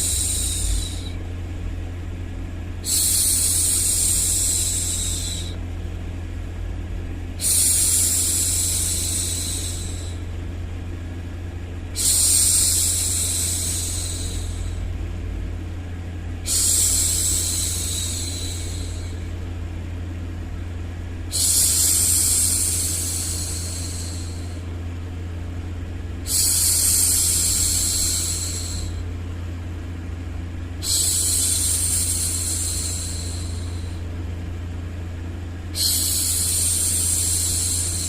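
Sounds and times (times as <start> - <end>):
low rumbling noise: 0.0 - 38.0.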